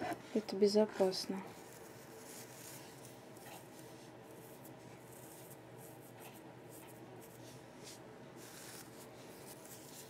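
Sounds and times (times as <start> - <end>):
soft scratchy touches: 1.0 - 10.0
fingers rustling dried moss: 1.5 - 10.0.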